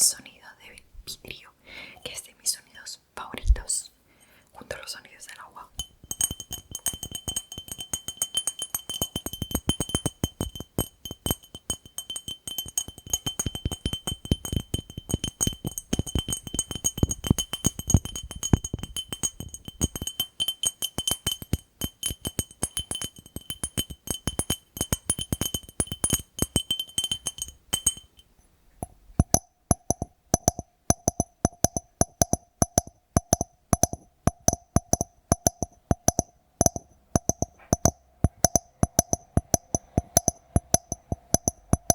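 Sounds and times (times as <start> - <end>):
tapping on glass jar: 5.7 - 41.9.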